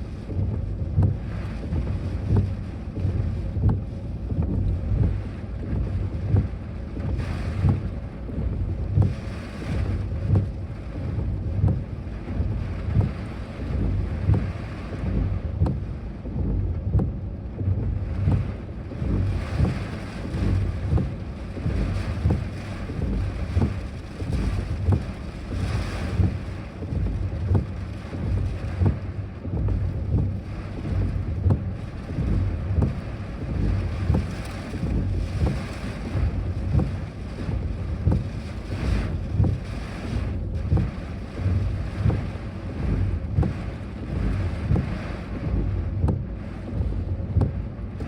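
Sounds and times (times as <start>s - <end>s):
strong wind buffeting microphone: 0.0s - 48.0s.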